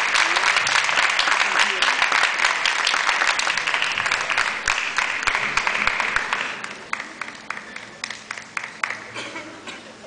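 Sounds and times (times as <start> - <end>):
audience applause: 0.0 - 9.4.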